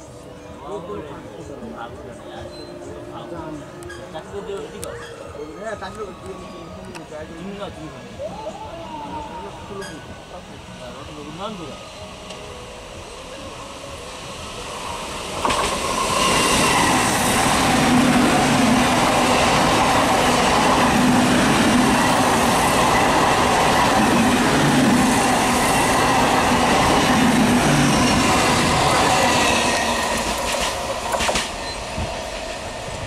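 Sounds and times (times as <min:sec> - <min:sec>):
train passing at speed: 0:00.0 - 0:33.0.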